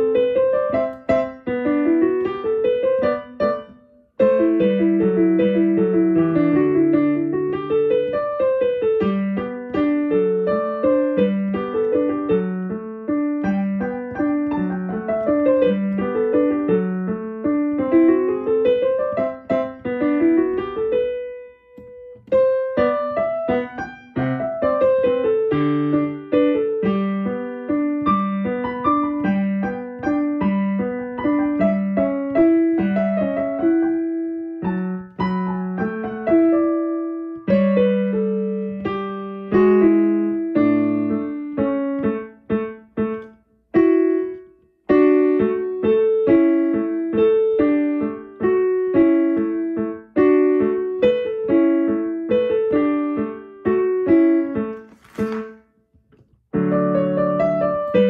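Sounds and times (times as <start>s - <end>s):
piano playing: 0.0s - 55.8s, 56.4s - 58.0s.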